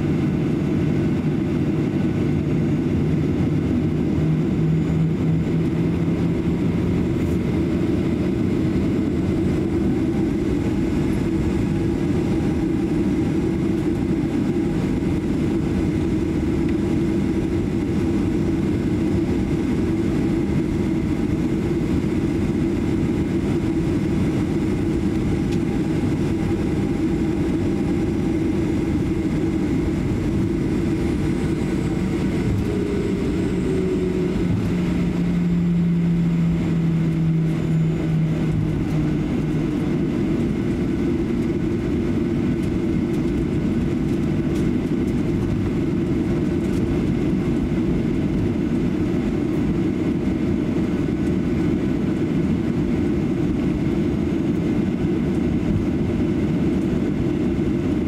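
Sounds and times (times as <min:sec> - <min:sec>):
low rumble: 0:00.0 - 0:53.3
jet engine hum: 0:00.0 - 0:58.0.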